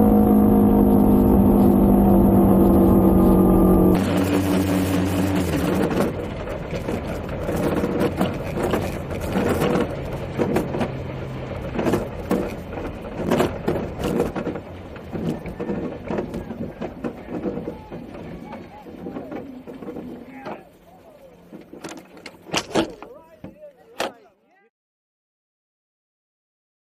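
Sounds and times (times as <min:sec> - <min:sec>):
motorcycle engine tone: 0:00.0 - 0:23.3
rolling rumble: 0:00.0 - 0:24.4
body and wheels rattling: 0:01.0 - 0:24.4.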